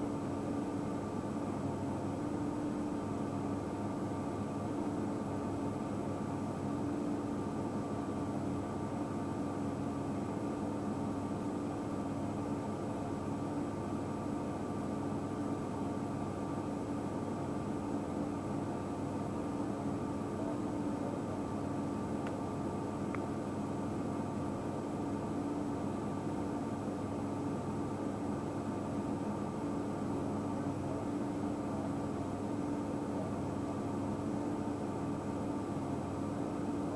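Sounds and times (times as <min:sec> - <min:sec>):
mechanical hum with hiss: 0:00.0 - 0:36.9.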